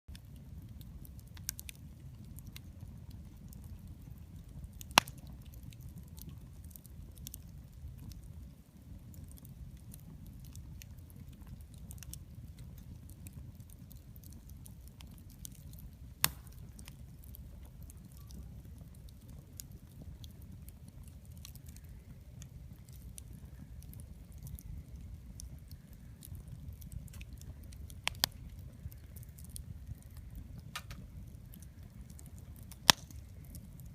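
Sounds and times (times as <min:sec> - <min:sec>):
bonfire crackling: 0:00.1 - 0:33.9
low fire rumble: 0:00.1 - 0:33.9
loud pops of fire: 0:00.5 - 0:07.5, 0:09.2 - 0:33.9.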